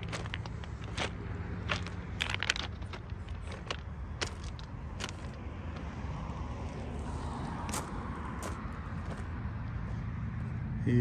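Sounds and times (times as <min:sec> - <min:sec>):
footsteps crunching on gravel: 0:00.0 - 0:10.6.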